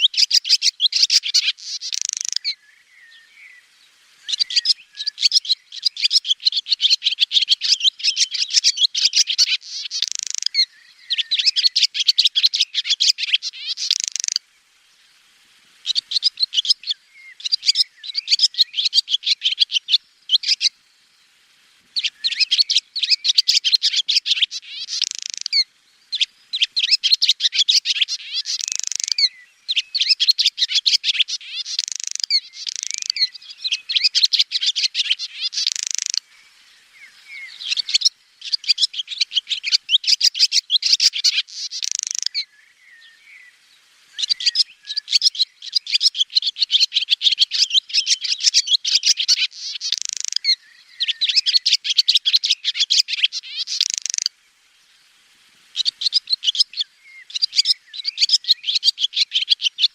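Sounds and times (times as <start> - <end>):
swallow twittering: 0.0 - 14.4, 15.8 - 20.9, 22.0 - 54.3, 55.7 - 59.9.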